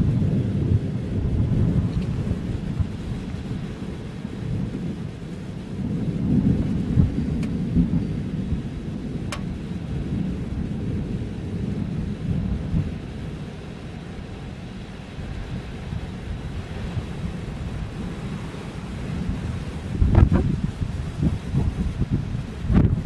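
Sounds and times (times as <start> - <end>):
thunder rumbling: 0.0 - 23.0.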